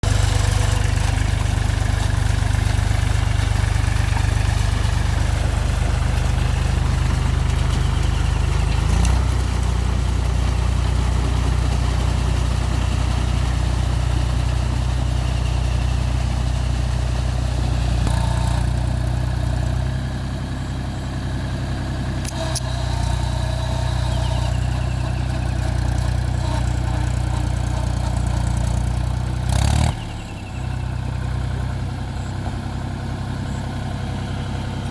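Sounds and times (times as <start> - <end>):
tractor diesel engine droning: 0.0 - 34.9.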